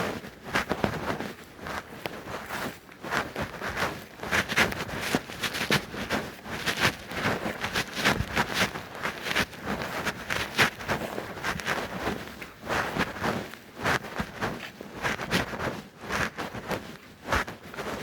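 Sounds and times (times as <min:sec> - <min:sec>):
scuffing footsteps: 0:00.0 - 0:18.0.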